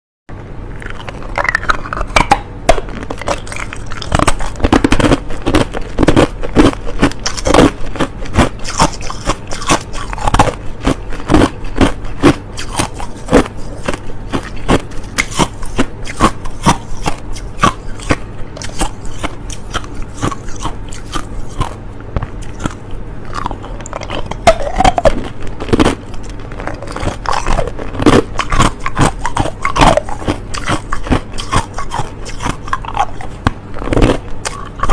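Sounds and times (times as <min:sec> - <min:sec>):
person crunching ice: 0:00.8 - 0:21.8, 0:22.4 - 0:34.9.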